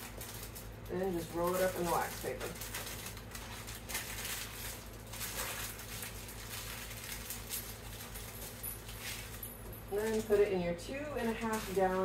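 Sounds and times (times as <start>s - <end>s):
wax paper rustling and crinkling: 0.0s - 12.0s.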